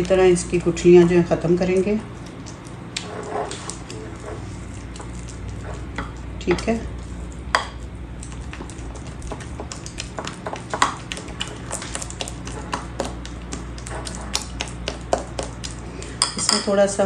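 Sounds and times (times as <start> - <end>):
metal spoon beating batter in bowl: 0.0 - 17.0.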